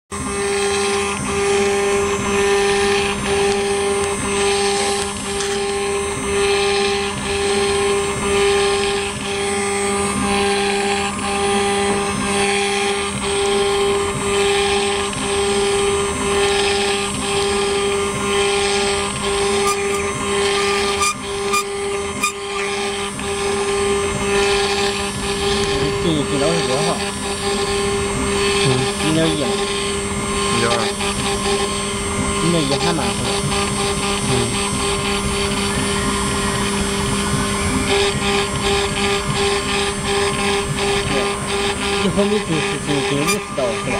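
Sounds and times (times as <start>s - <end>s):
engraving machine spindle whine: 0.1s - 43.9s.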